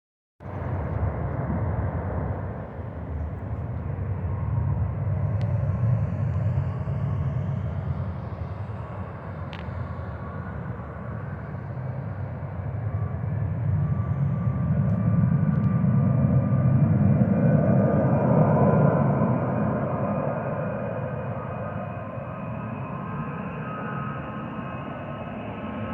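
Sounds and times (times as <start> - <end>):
faint engine whine: 0.4 - 25.9
jet engines roaring: 0.4 - 25.9.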